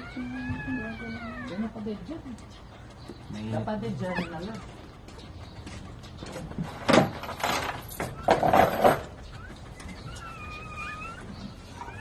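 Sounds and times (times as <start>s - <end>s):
puppies squeaky crying: 0.0s - 6.7s, 7.4s - 12.0s.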